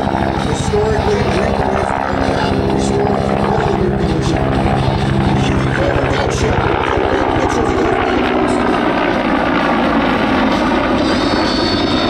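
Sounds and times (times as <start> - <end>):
propeller aircraft passing: 0.0 - 12.0.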